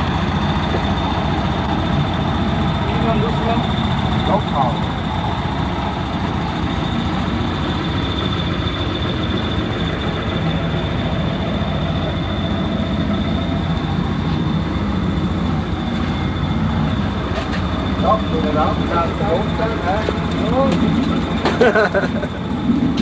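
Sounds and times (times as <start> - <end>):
propeller plane engine drone: 0.0 - 23.0
high whine: 2.0 - 23.0.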